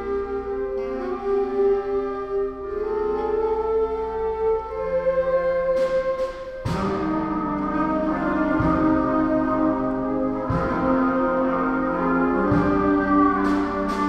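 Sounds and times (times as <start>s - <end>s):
concert band playing: 0.0s - 14.0s.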